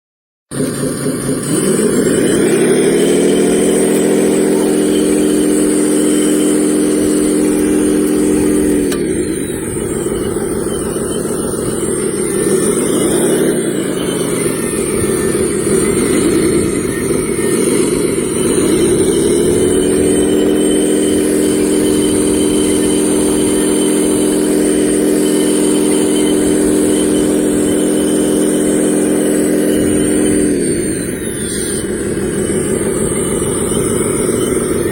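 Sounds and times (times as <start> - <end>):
toy vehicle motor running: 0.6 - 34.9.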